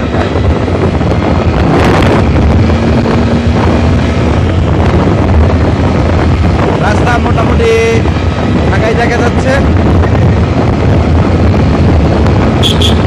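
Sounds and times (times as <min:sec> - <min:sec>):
motorbike engine rumble: 0:00.0 - 0:13.0
wind buffeting microphone: 0:00.0 - 0:13.0.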